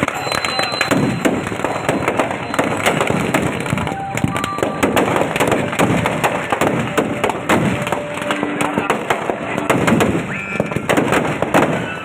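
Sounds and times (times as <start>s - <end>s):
firecrackers cracking and popping: 0.0s - 12.0s.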